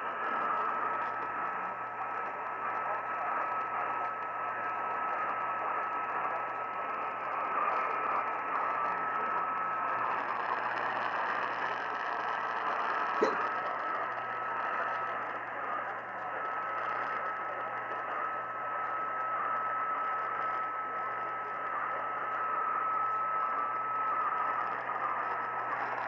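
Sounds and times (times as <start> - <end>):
radio static and hiss: 0.0 - 26.0.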